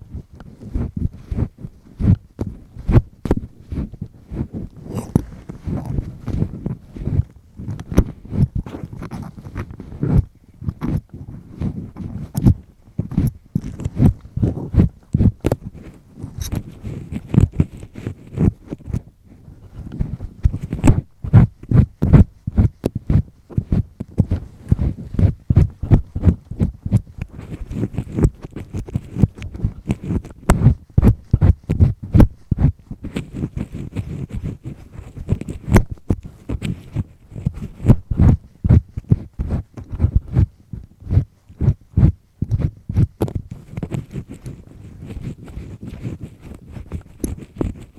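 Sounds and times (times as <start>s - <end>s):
earpick scraping inside ear: 0.0s - 47.9s.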